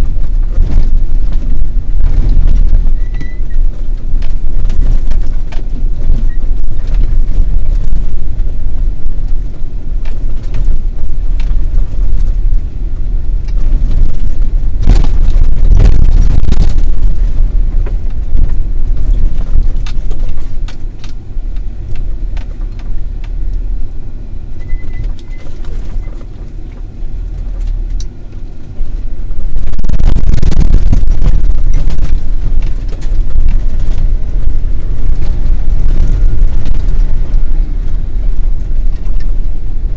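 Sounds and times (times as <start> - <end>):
vehicle engine and tyres rumbling: 0.0 - 39.9.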